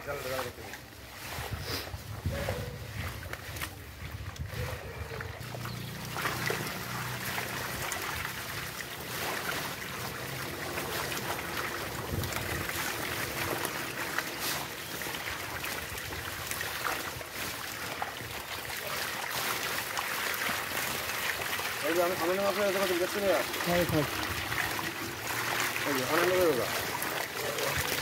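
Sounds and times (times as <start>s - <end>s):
water sloshing and splashing: 0.0s - 28.0s
fish splashing in a net: 0.2s - 28.0s.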